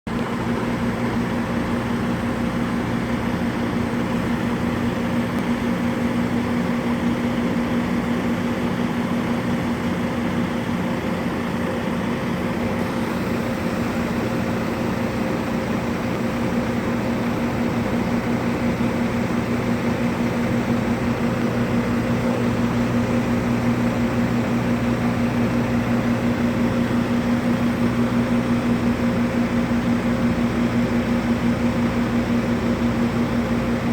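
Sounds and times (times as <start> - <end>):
machine hum with hiss: 0.1 - 33.9.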